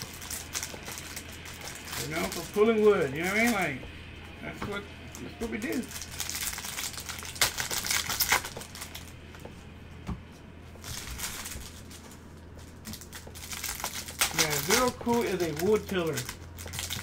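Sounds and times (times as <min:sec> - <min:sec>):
cards rustling: 0:00.0 - 0:03.8, 0:05.1 - 0:09.4, 0:10.8 - 0:17.0
foil wrapper crinkling: 0:00.0 - 0:03.8, 0:05.1 - 0:09.2, 0:10.8 - 0:17.0.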